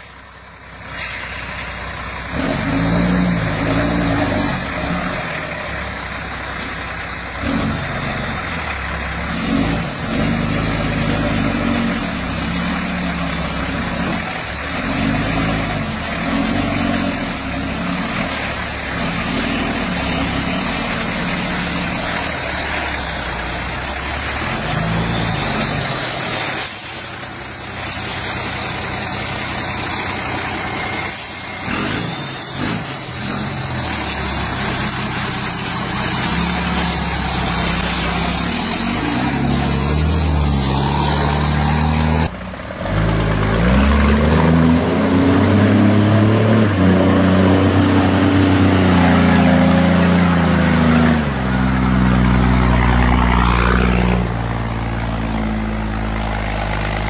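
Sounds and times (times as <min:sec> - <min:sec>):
diesel truck engine: 0:00.0 - 0:57.0.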